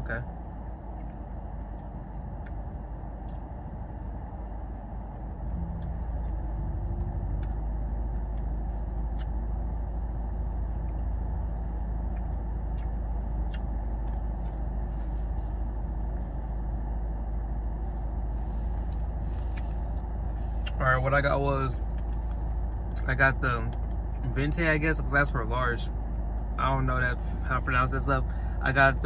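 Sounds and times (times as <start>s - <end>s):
car engine and ventilation hum: 0.0s - 29.0s.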